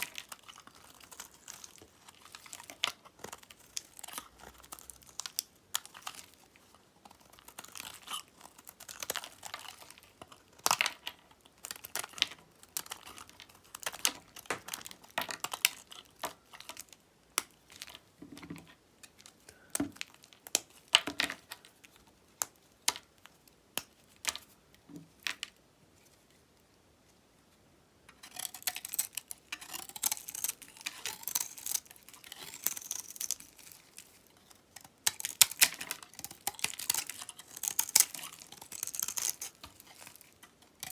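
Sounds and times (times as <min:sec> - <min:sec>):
knife cutting dry soap: 0:00.0 - 0:21.6, 0:28.2 - 0:40.9.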